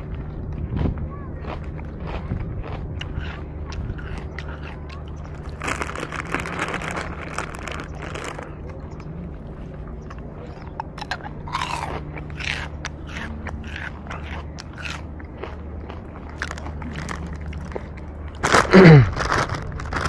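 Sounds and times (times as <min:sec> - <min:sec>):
crunchy snack chewing: 0:00.0 - 0:20.0.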